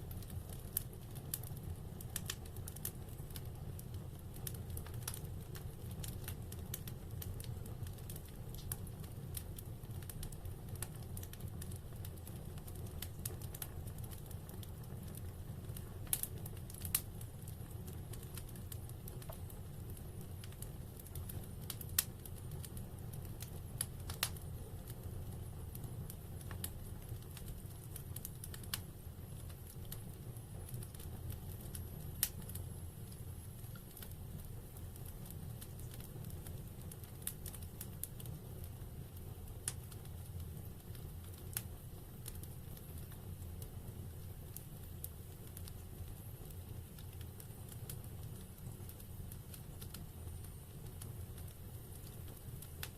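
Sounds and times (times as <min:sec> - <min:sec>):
fire popping and snapping: 0:00.0 - 0:52.9
wood fire crackling: 0:00.0 - 0:52.9.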